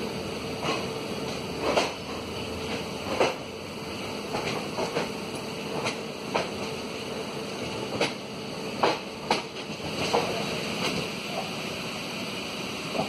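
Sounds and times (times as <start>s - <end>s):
train wheels clanking over rail joints: 0.0s - 6.9s, 7.5s - 11.6s
train rumble: 0.0s - 13.0s.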